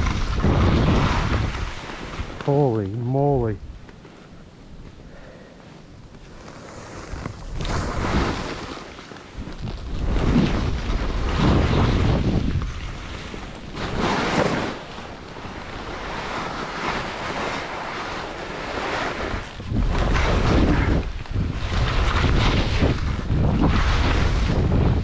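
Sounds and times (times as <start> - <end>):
skis scraping through snow: 0.0 - 3.2, 3.8 - 25.0
wind buffeting microphone: 0.0 - 5.2, 5.9 - 25.0.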